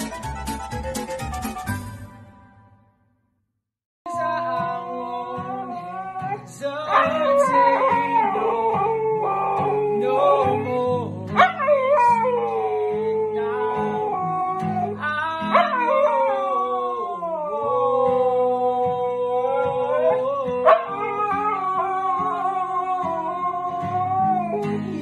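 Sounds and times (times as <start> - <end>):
acoustic guitar strumming: 0.0 - 2.8, 4.1 - 16.2, 18.8 - 25.0
dog howling: 4.1 - 25.0
man singing: 4.1 - 25.0.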